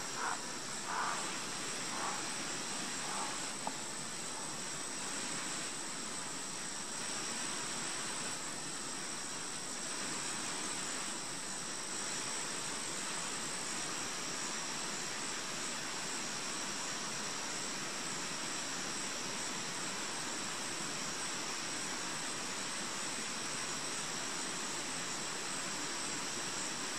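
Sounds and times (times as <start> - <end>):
outdoor background hiss: 0.0 - 26.9.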